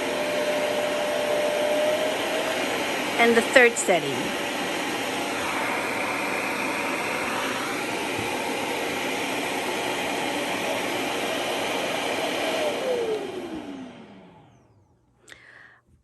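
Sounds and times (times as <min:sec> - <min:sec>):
grooming vacuum motor whine: 0:00.0 - 0:15.0.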